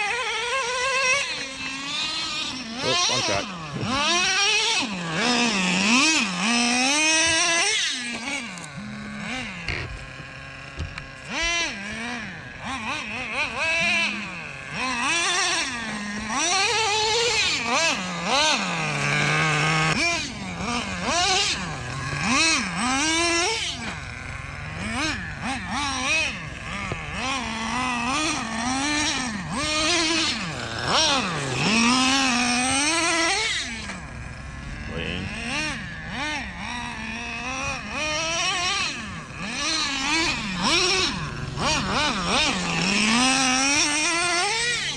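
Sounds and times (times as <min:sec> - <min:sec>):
rc truck engine revving: 0:00.0 - 0:44.9.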